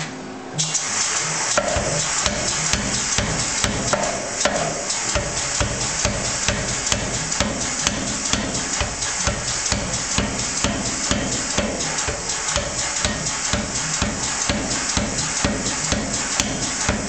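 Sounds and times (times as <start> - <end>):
power hammer striking hot steel: 1.5 - 17.0.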